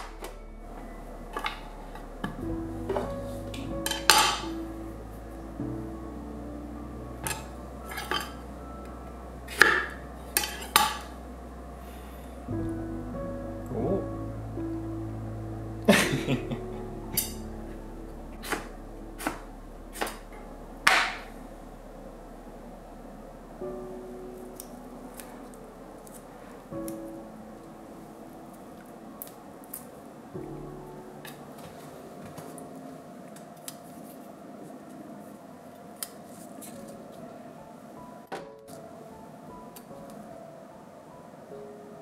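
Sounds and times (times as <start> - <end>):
soft background music: 0.0 - 42.0.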